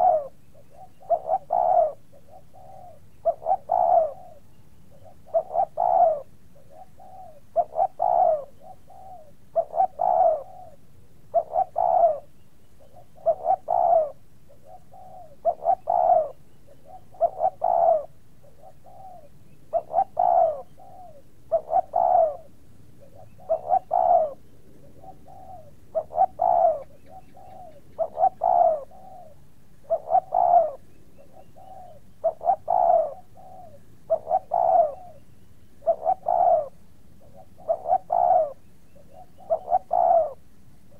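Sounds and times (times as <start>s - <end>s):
bird calling: 0.0s - 40.4s.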